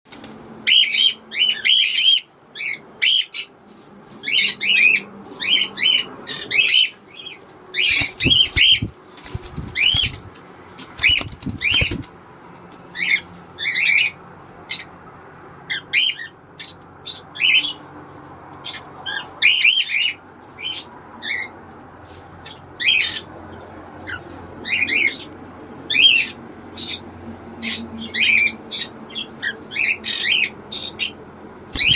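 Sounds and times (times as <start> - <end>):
parrots chirping: 0.6 - 3.6, 4.2 - 12.2, 12.9 - 15.0, 15.7 - 17.8, 18.6 - 21.6, 22.4 - 23.4, 24.0 - 31.9.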